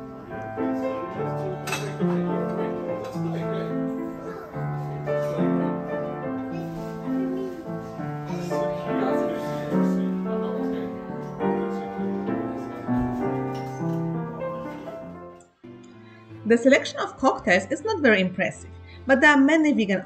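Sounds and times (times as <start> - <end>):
piano playing: 0.0 - 20.0.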